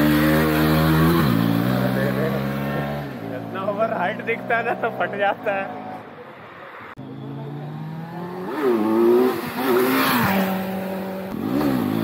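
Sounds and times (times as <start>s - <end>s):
motorcycle engine revving: 0.0s - 6.1s, 7.0s - 12.0s.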